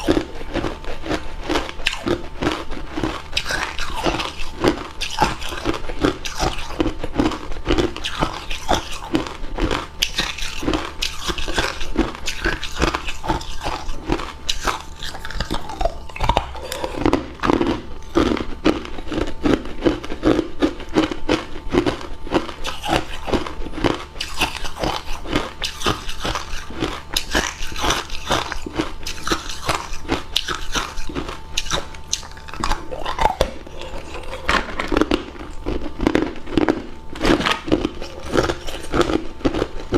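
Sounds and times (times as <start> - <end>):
ice cubes being chewed: 0.0 - 39.9.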